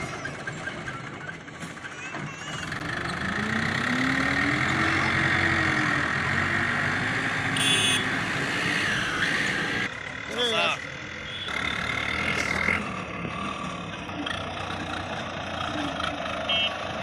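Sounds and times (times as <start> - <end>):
tractor diesel engine revving: 2.6 - 17.0.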